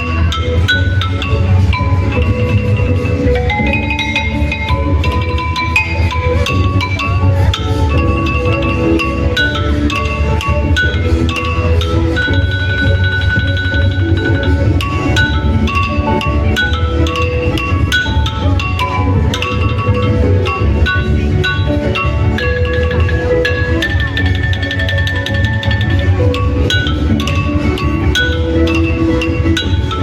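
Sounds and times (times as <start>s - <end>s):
steady low bass: 0.0s - 30.0s
stone bars struck in melody: 0.0s - 30.0s.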